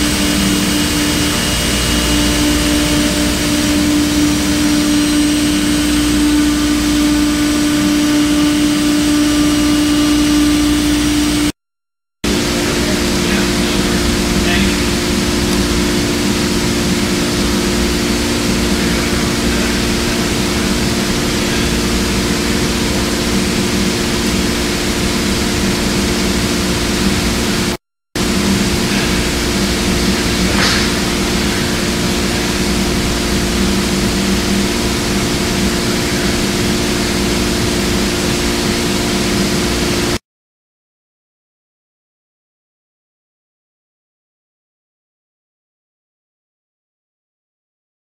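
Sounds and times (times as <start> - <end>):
cnc router cutting wood: 0.0 - 11.5, 12.3 - 40.2.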